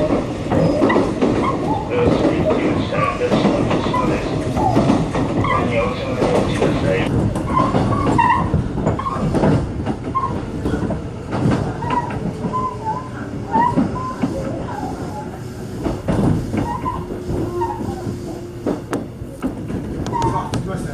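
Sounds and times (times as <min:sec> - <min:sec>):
train rumbling on rails: 0:00.0 - 0:20.9
train wheels knocking: 0:00.0 - 0:20.9.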